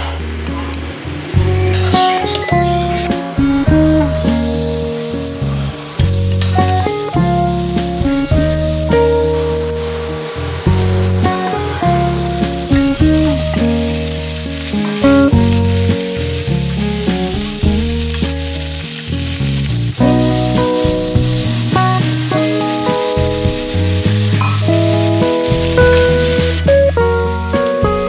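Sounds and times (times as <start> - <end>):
background music with bass line: 0.0 - 28.0
vegetables sizzling in a wok: 3.0 - 28.0.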